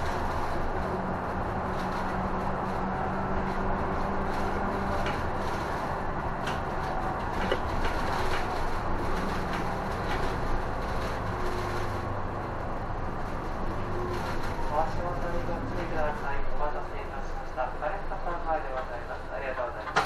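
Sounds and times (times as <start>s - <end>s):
bus engine hum: 0.0s - 20.0s
road noise: 0.0s - 20.0s.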